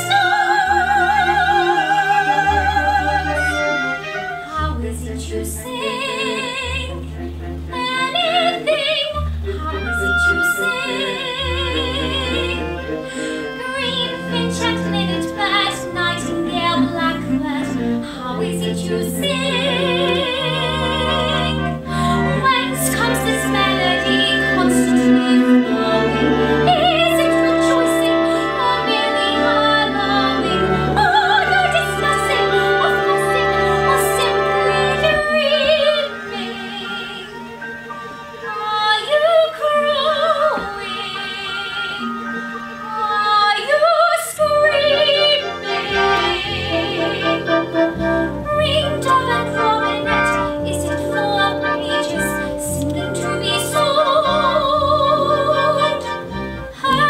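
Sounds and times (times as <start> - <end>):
soprano singing with vibrato: 0.0 - 37.8, 38.4 - 42.2, 42.8 - 57.0
instrumental accompaniment low notes: 6.6 - 43.2, 44.4 - 57.0.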